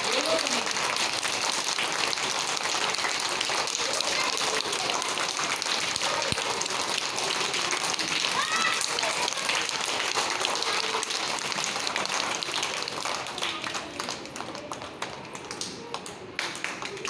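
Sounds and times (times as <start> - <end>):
children clapping hands: 0.0 - 17.0.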